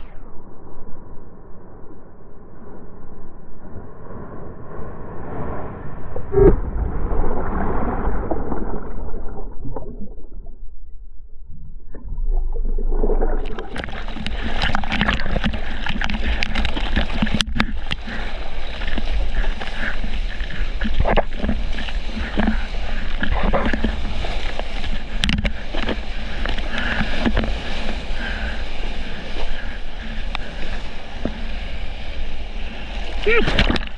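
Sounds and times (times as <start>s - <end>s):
surf water churning and splashing: 4.0s - 10.4s, 12.0s - 33.9s.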